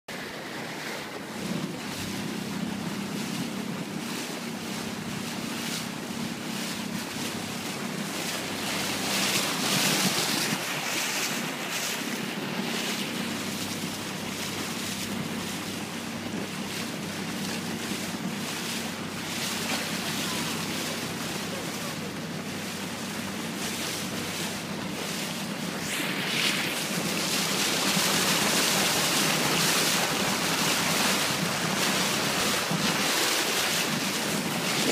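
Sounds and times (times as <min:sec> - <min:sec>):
water rushing along hull: 0:00.0 - 0:34.9
boat engine humming: 0:00.1 - 0:34.9
wind buffeting microphone: 0:00.7 - 0:34.9.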